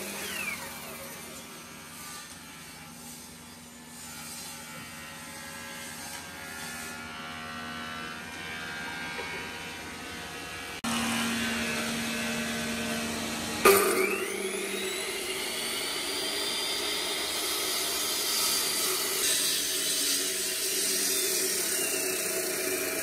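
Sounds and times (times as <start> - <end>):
electric saw motor whirring: 0.0 - 23.0.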